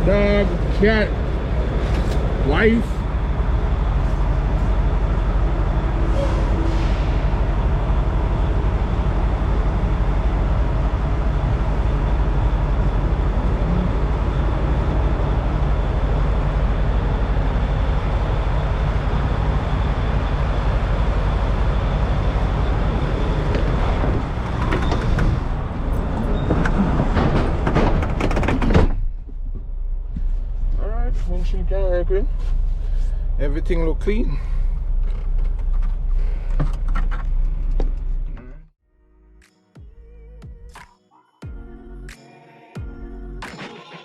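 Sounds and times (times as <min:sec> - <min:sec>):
diesel truck engine rumbling: 0:00.0 - 0:38.7.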